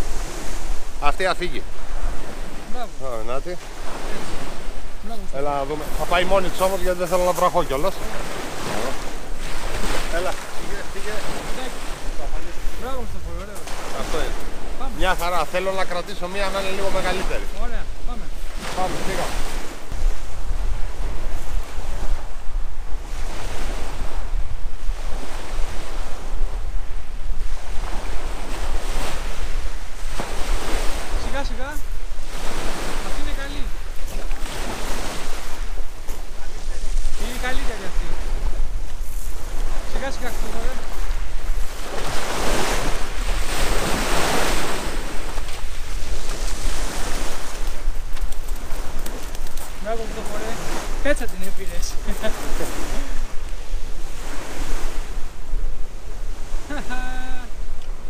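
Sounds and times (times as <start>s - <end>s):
sea waves washing against shore: 0.0s - 58.0s
wind rumbling on microphone: 0.0s - 58.0s.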